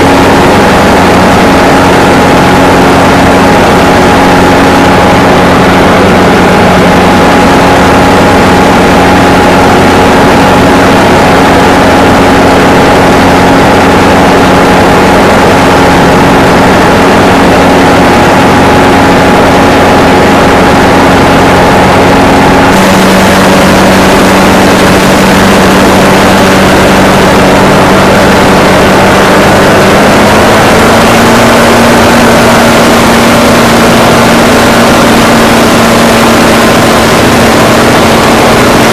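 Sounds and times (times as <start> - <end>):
aircraft engine running: 0.0 - 38.9.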